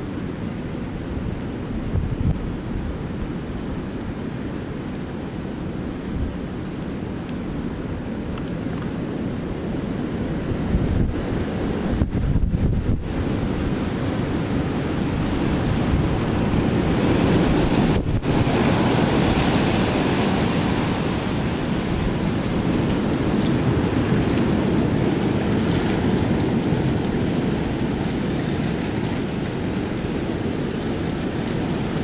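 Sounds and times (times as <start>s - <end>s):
storm wind buffeting microphone: 0.0s - 4.4s, 7.0s - 32.0s.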